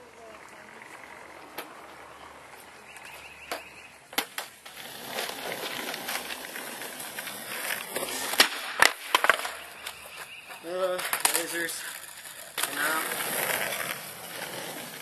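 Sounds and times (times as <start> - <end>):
skateboard wheels rolling: 0.0 - 15.0
skateboard clacking on ground: 0.9 - 15.0.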